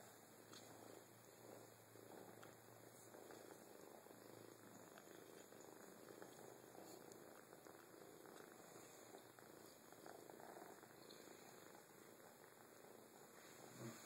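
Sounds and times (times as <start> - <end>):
kitten purring: 0.0 - 14.0.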